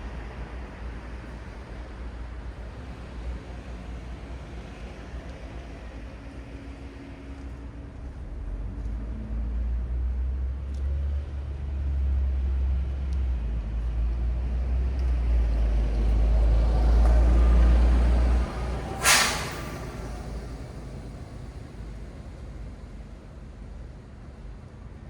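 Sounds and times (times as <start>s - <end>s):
passing vehicles engine rumble: 0.0s - 25.0s.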